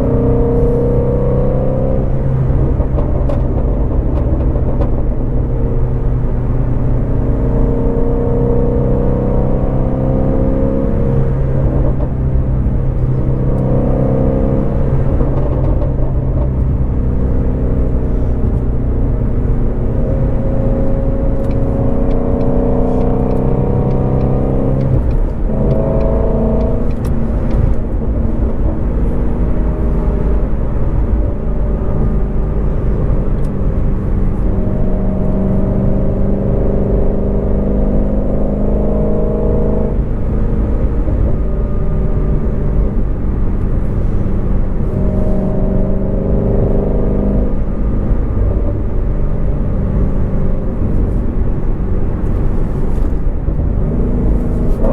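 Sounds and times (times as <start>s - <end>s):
steady low rumble: 0.0s - 37.5s, 39.8s - 54.9s
car engine shifting gears: 0.0s - 54.9s.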